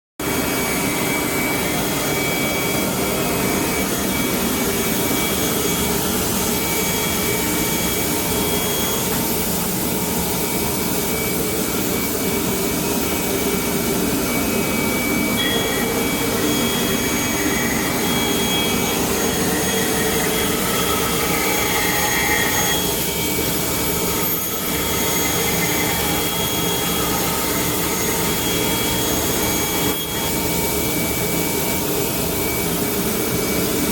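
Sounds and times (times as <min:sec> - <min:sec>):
saw machine running with whine: 0:00.2 - 0:33.9.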